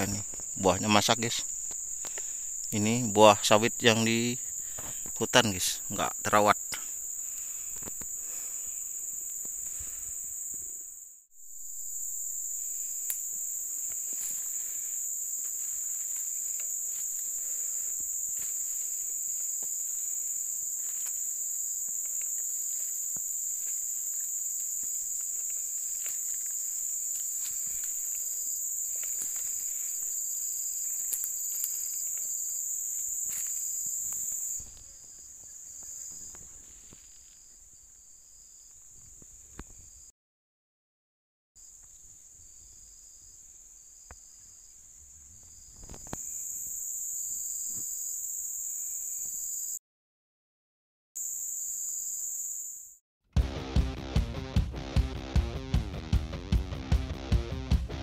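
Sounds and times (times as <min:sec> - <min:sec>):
high-pitched insect drone: 0:00.0 - 0:40.1, 0:41.6 - 0:49.8, 0:51.2 - 0:57.7
pulsing insect call: 0:00.0 - 0:40.1, 0:41.6 - 0:49.8, 0:51.2 - 0:58.0.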